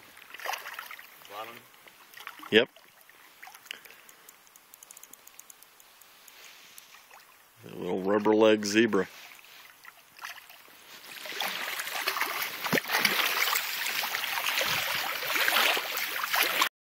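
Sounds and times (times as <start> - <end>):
water splashing: 0.0 - 3.9, 6.8 - 16.7.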